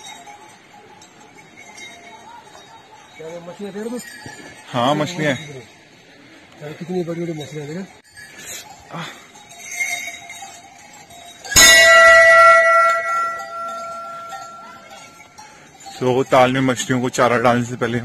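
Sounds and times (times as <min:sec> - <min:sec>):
large metal bell ringing: 0:00.0 - 0:18.0.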